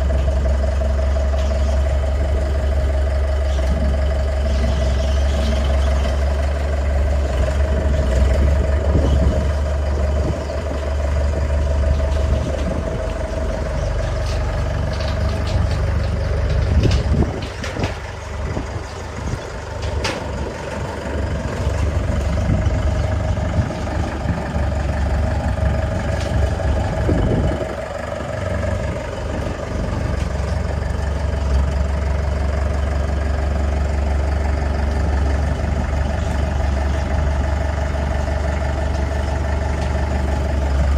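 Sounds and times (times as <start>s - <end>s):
machine engine humming: 0.0s - 40.9s.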